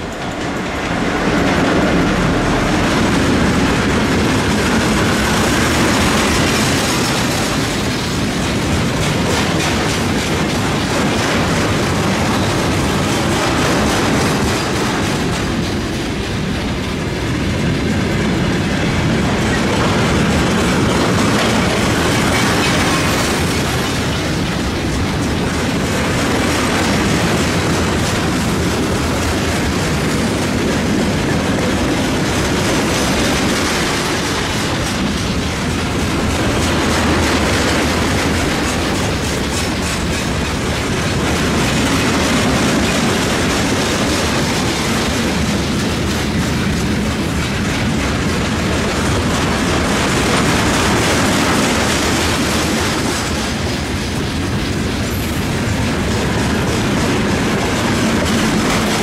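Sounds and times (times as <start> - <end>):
freight train rolling past: 0.0 - 59.0
wheels clattering over rail joints: 0.0 - 59.0.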